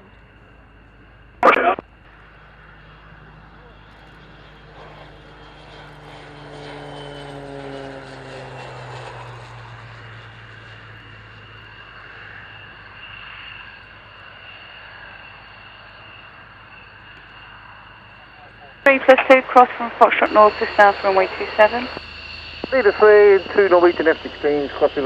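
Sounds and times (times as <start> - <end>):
propeller aircraft passing: 0.0 - 25.0.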